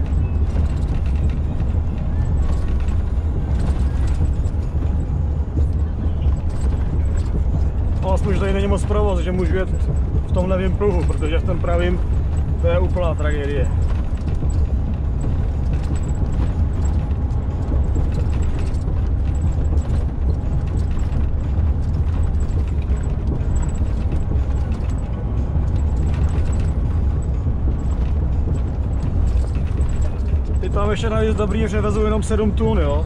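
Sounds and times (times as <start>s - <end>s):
cab rattles and knocks: 0.0s - 33.0s
engine and tyres rumbling: 0.0s - 33.0s.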